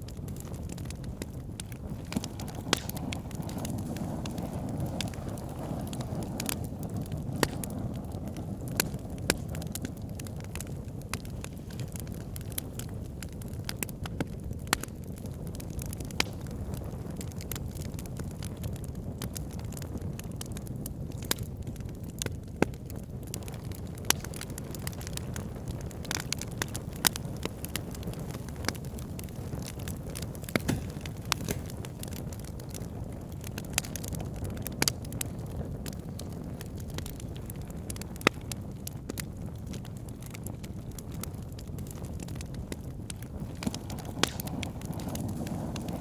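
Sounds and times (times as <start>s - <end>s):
fire crackling: 0.0s - 46.0s
fire rumbling: 0.0s - 46.0s
sharp pops of fire: 0.0s - 46.0s.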